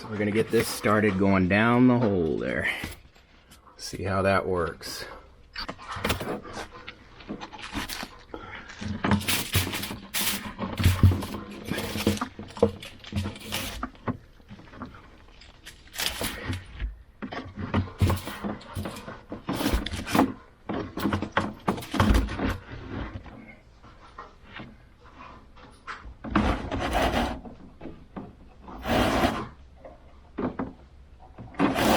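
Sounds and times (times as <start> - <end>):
cable scraping and rustling in wall: 0.0 - 3.7, 5.6 - 31.9.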